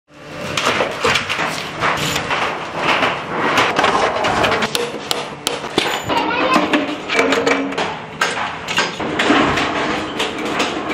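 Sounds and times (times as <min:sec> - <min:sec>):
metal clattering and knocking: 0:00.5 - 0:10.9.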